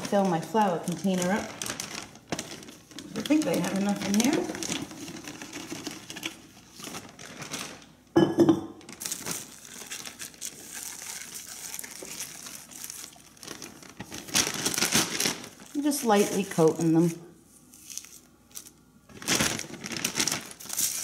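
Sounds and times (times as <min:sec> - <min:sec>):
plastic bags crinkling: 0:00.0 - 0:08.1, 0:08.8 - 0:21.0.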